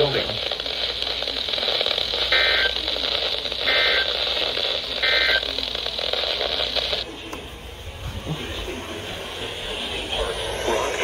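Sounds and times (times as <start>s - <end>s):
radio static: 0.0s - 11.0s.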